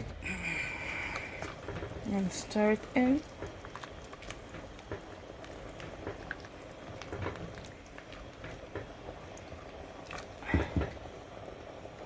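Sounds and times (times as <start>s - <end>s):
rice bubbling in a pot: 0.0s - 12.0s.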